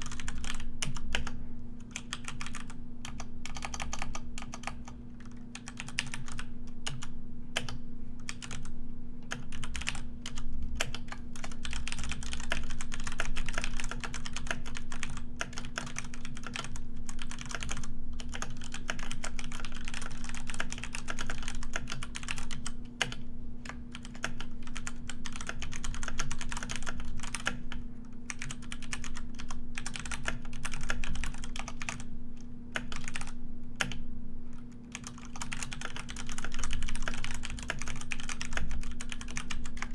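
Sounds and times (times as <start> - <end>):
keyboard typing: 0.0 - 1.3, 1.9 - 8.7, 9.3 - 27.6, 28.3 - 32.0, 32.8 - 34.0, 34.9 - 39.9
faint low hum: 0.0 - 39.9.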